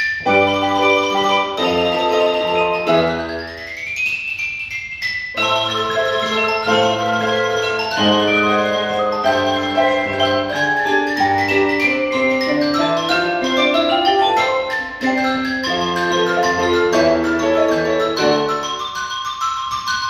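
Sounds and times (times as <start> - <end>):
mallet percussion ensemble: 0.0 - 20.0.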